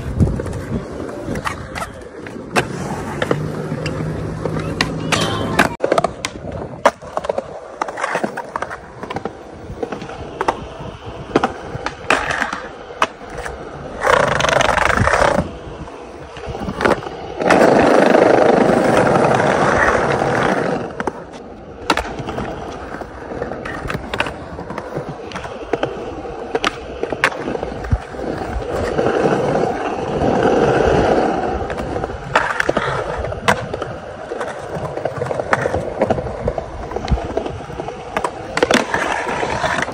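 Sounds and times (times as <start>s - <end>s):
skateboard popping and landing clacks: 0.0s - 15.5s, 16.3s - 39.9s
skateboard grinding on rail: 0.0s - 39.9s
skateboard wheels rolling on concrete: 0.0s - 39.9s.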